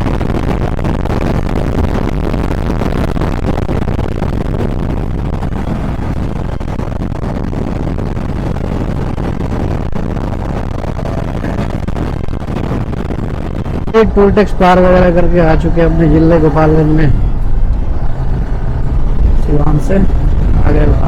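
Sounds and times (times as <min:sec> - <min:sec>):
motorcycle road noise: 0:00.0 - 0:21.0
wind rush: 0:00.0 - 0:21.0.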